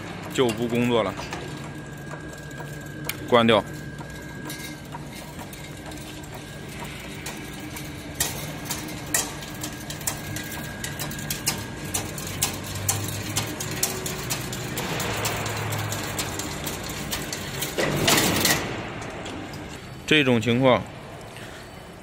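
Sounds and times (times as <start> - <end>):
machine motor humming with whine: 0.0 - 20.1.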